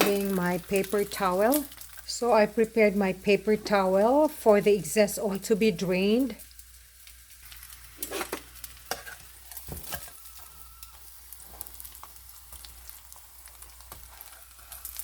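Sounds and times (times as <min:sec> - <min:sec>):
fish frying in hot oil: 0:00.0 - 0:03.4, 0:05.3 - 0:15.0
oil crackling and popping: 0:00.0 - 0:04.5, 0:05.3 - 0:15.0.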